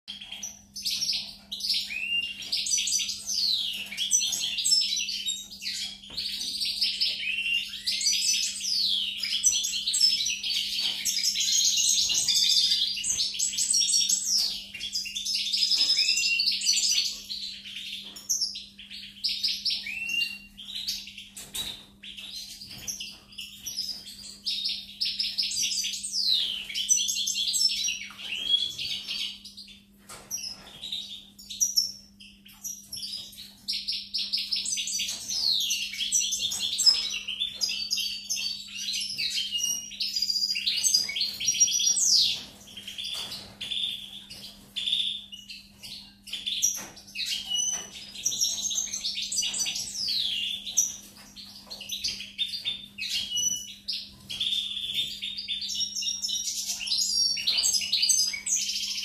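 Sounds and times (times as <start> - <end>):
bird singing high twittering trills: 0.1 - 59.0.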